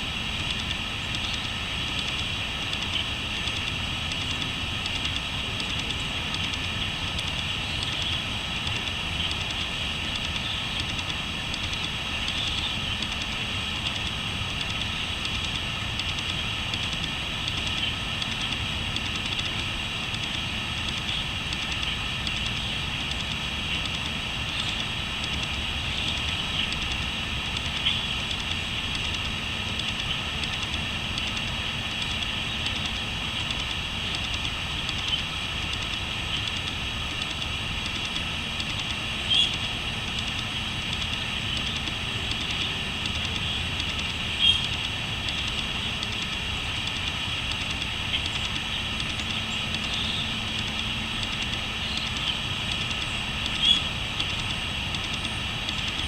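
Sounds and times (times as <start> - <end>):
crickets trilling: 2.8 - 56.0.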